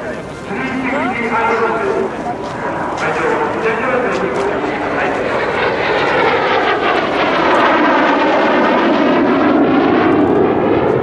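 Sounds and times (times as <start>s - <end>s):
jet engines passing by: 0.0s - 11.0s.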